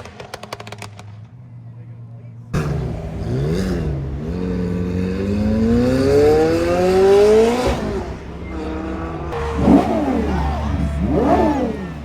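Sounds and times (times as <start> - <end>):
car engine accelerating: 0.1 - 12.0.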